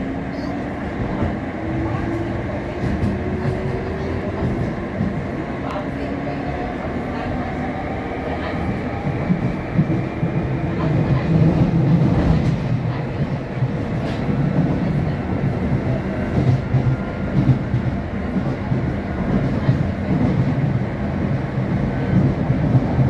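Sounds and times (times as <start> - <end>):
underground train rumble: 0.0 - 23.0.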